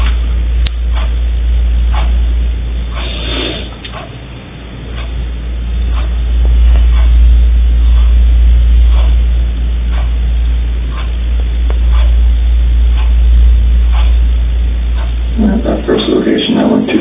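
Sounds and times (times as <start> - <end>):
low hum with hiss: 0.0 - 17.0
wall clock ticking: 0.0 - 17.0.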